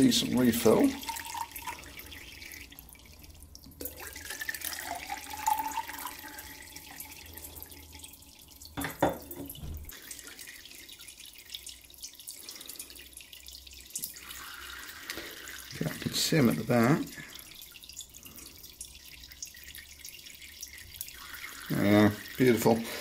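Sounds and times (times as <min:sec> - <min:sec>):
water trickling into metal bowls: 0:00.0 - 0:23.0.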